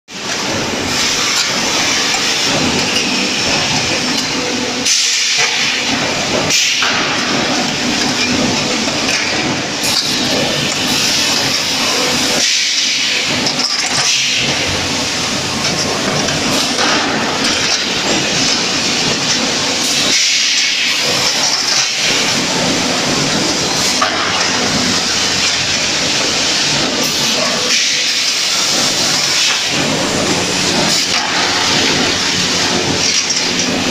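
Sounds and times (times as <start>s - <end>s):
factory machinery din: 0.1s - 33.9s
machinery hiss: 0.7s - 8.6s, 9.5s - 33.9s.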